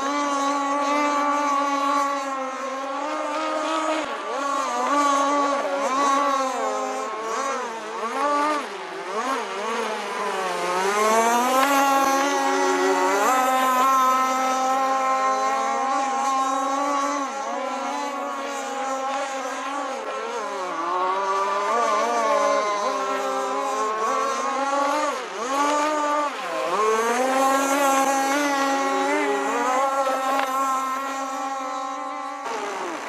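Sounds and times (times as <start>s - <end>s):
model boat motor running: 0.0s - 33.0s.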